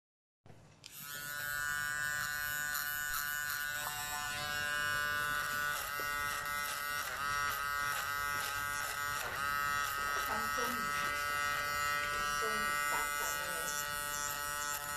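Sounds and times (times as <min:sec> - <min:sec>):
electric hair clipper buzzing: 0:00.8 - 0:14.9.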